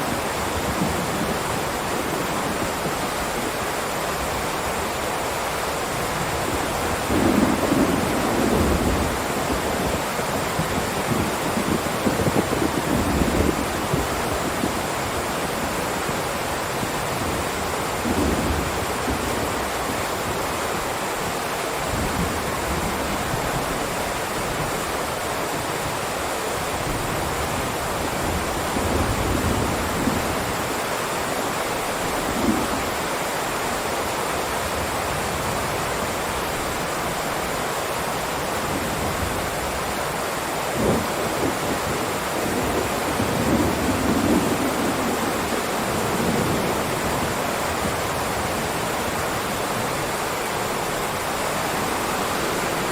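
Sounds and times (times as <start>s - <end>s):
heavy rain downpour: 0.0s - 52.9s.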